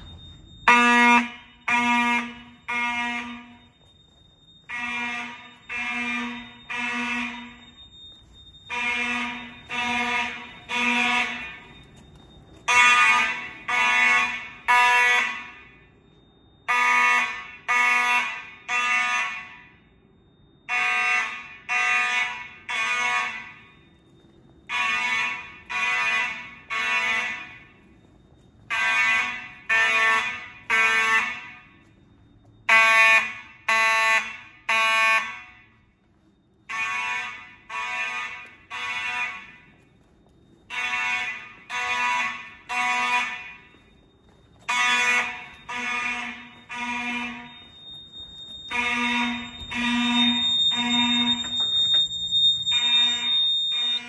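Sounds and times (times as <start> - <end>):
buzzy fire alarm horn blasts: 0.0 - 36.0, 36.6 - 40.0, 40.6 - 54.0.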